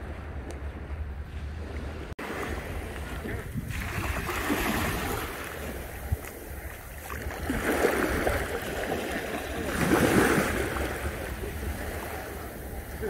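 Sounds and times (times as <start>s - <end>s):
wind rumbling on microphone: 0.0s - 13.0s
waves washing up a sandy beach: 1.3s - 13.0s.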